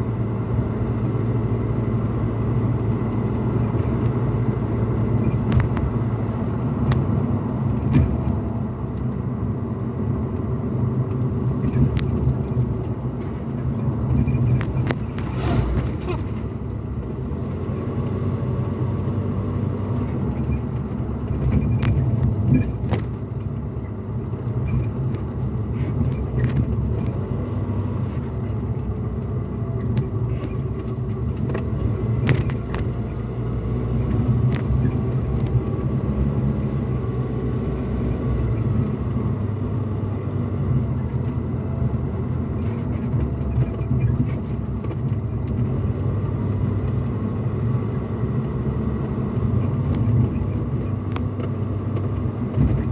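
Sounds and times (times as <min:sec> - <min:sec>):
engine and road rumble: 0:00.0 - 0:52.9.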